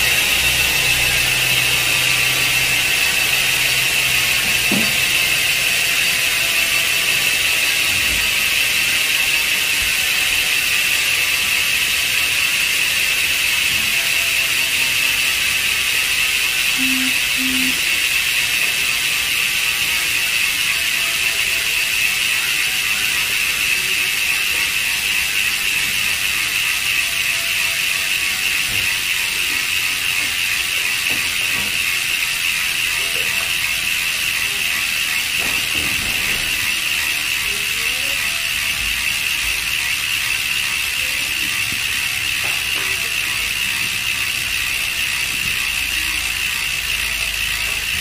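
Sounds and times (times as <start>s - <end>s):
bicycle freehub ratcheting buzz: 0.0s - 48.0s.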